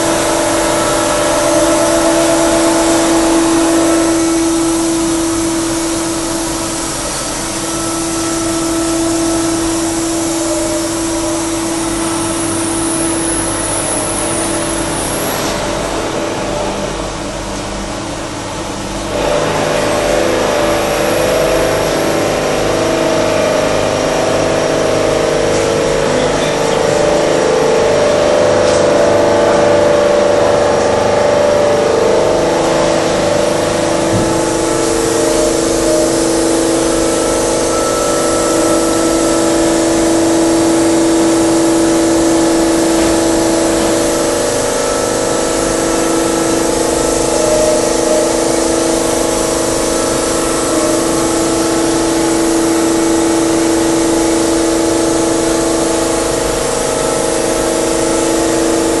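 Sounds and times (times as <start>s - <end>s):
milling machine spindle cutting: 0.0s - 59.0s.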